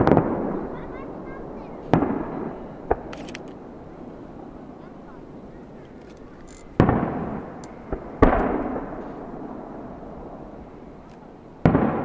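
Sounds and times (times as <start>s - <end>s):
fireworks bangs echoing: 0.0s - 12.0s.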